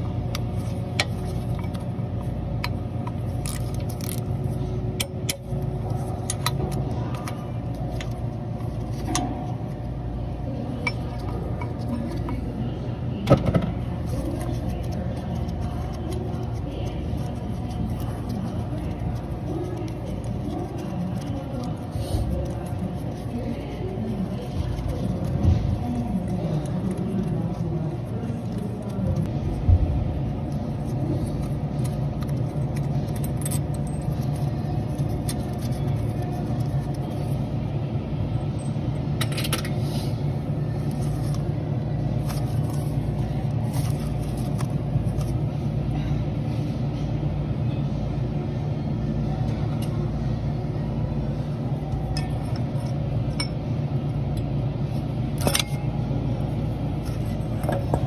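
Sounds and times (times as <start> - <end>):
low mechanical rumble: 0.0 - 58.0.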